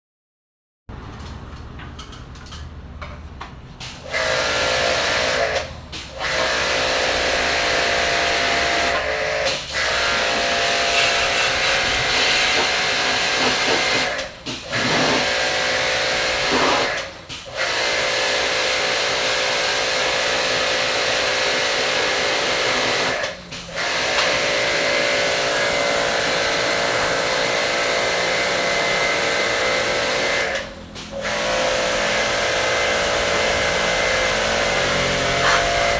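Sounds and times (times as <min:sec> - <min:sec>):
pump motor whine: 0:04.0 - 0:35.9
pressure washer water jet hissing: 0:06.0 - 0:35.9.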